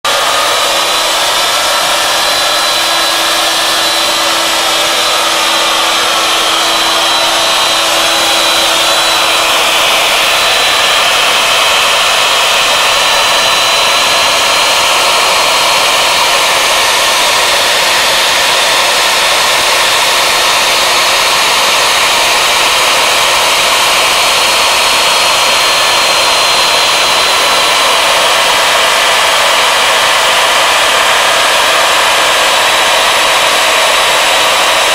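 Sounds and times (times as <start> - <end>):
router spindle cutting wood: 0.0 - 34.9.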